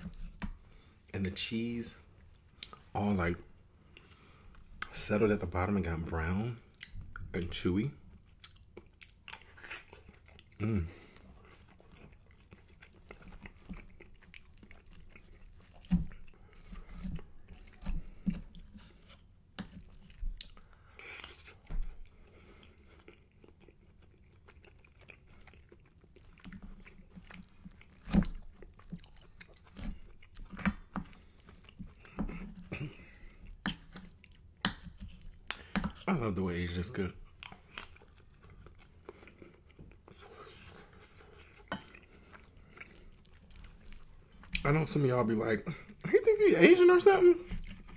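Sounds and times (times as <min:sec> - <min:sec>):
close chewing with crunches: 0:03.9 - 0:47.9.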